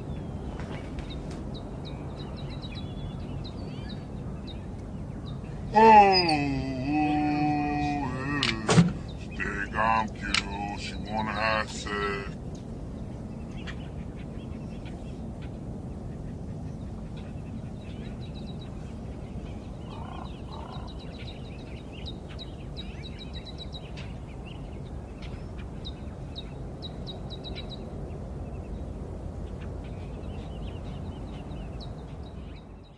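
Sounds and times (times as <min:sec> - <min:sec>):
birds chirping: 0:00.0 - 0:32.9
low outdoor rumble: 0:00.0 - 0:32.9.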